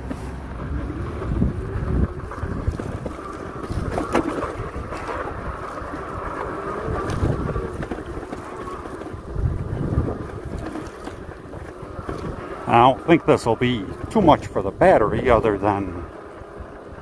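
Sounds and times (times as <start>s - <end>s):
electric motor whine: 0.0s - 17.0s
wind buffeting microphone: 0.0s - 17.0s.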